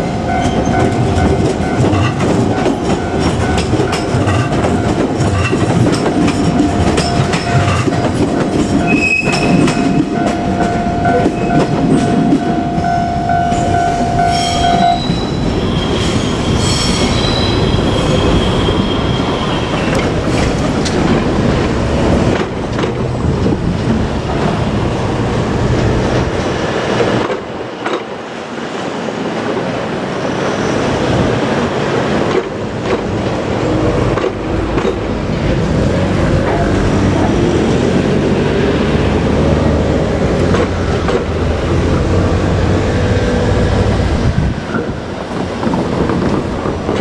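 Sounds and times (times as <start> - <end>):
train wheels clattering on track: 0.0 - 47.0.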